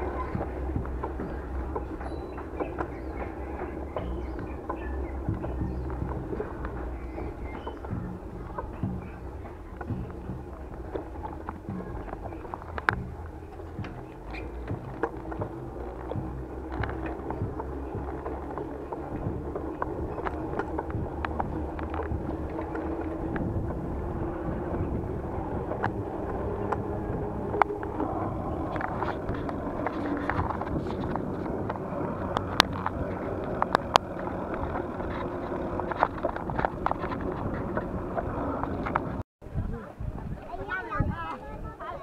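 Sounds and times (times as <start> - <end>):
bike clicks and rattles: 0.0 - 39.2
tyres rumbling on pavement: 0.0 - 39.3
wind buffeting microphone: 0.0 - 42.0.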